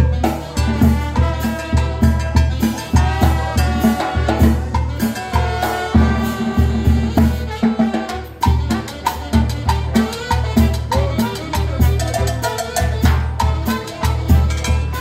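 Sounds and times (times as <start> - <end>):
bass drum and cymbal beat: 0.0 - 15.0
brass band playing: 0.0 - 15.0.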